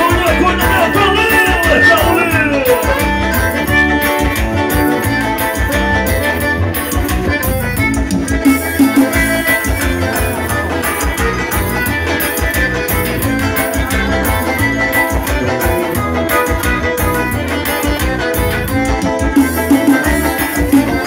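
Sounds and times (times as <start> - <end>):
accordion: 0.0 - 21.0
live band playing: 0.0 - 21.0
steady drum beat: 0.0 - 21.0.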